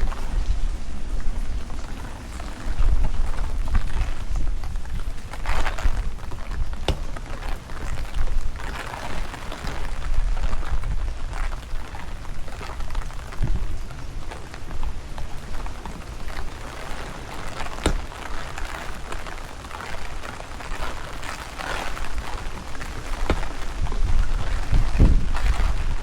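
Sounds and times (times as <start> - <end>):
rain falling on pavement: 0.0 - 26.0
sharp raindrop impacts: 0.0 - 26.0
wind buffeting microphone: 0.0 - 26.0.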